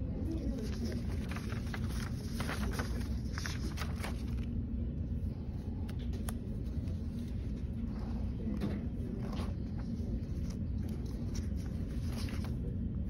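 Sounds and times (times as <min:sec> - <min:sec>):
steady low hum: 0:00.0 - 0:13.0
notebook pages rustling: 0:00.2 - 0:04.6, 0:05.2 - 0:13.0.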